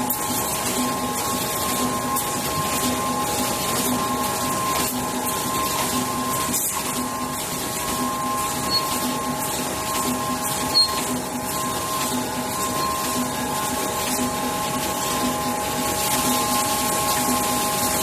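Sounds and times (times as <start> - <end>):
printing machine whine and hum: 0.0 - 18.0.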